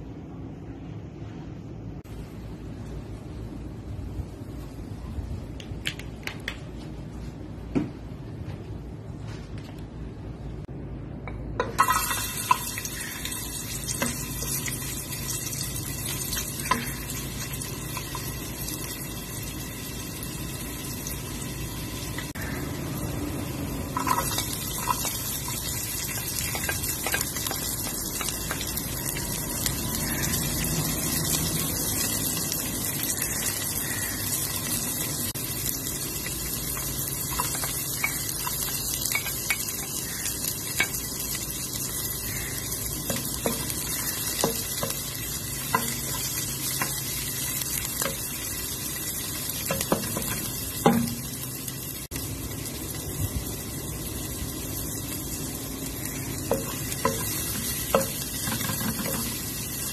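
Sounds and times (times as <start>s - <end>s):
hot oil hissing and sizzling: 11.6s - 59.9s.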